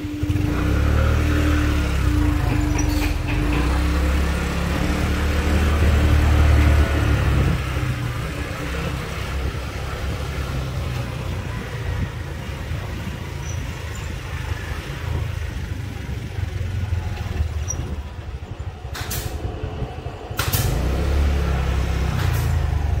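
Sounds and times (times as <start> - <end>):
vehicle engine running: 0.0 - 23.0
wind buffeting microphone: 2.0 - 23.0.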